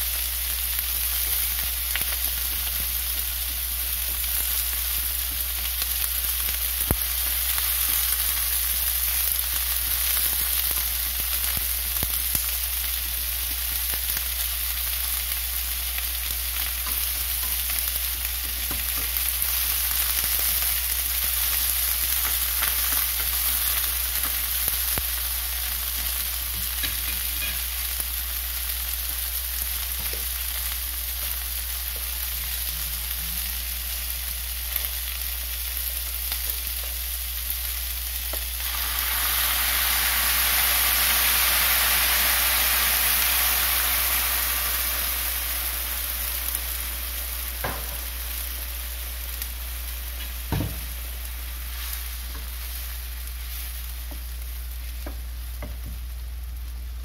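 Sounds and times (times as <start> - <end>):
fish sizzling in a frying pan: 0.0 - 57.0.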